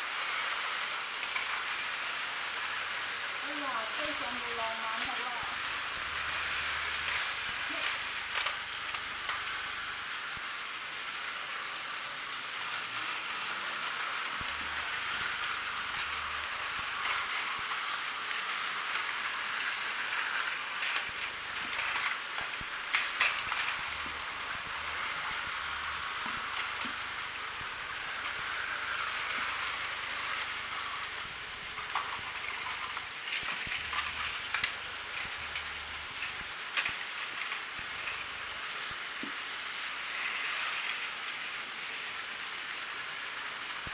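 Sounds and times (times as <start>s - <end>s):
toy trains whirring: 0.0s - 43.9s.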